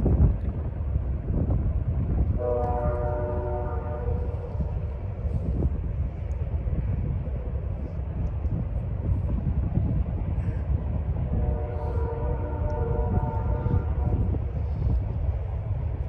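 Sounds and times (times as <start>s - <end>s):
distant freight train rumble: 0.0s - 16.0s.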